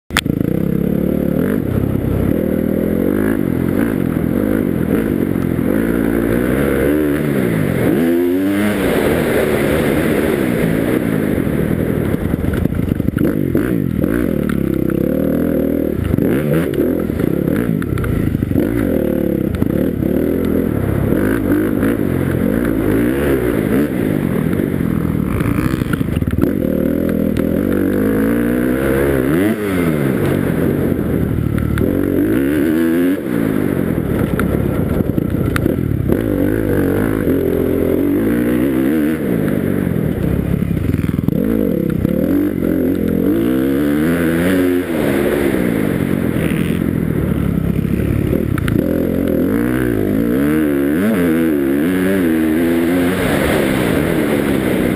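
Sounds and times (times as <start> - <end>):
dirt bike engine revving: 0.2 - 54.9.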